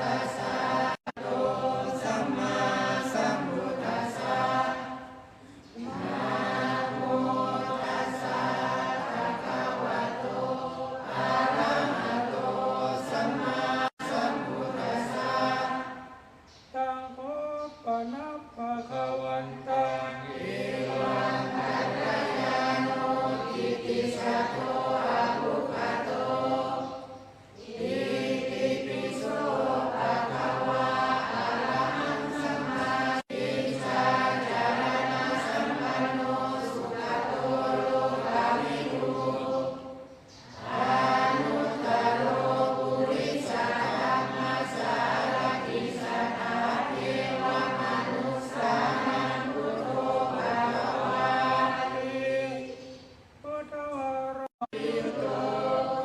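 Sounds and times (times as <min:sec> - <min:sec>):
group chanting in unison: 0:00.0 - 0:53.6, 0:54.4 - 0:56.0.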